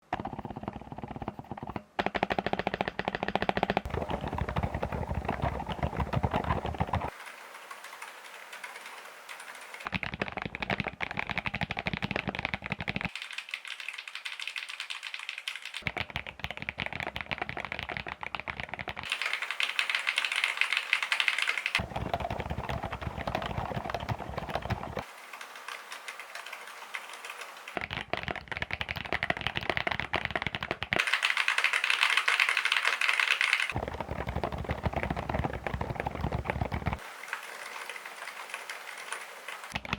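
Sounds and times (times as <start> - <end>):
fast typing on mechanical keyboard: 0.1 - 39.9.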